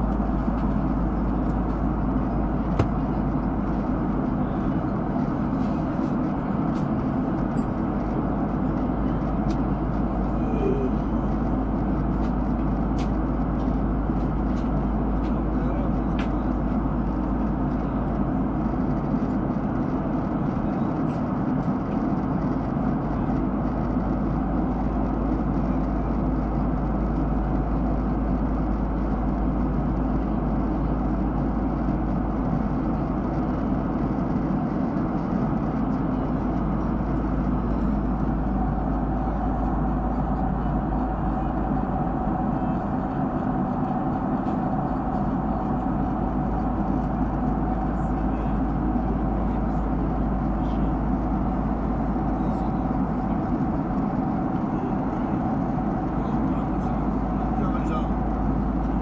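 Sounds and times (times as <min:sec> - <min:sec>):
airplane cabin engine rush: 0:00.0 - 0:59.0.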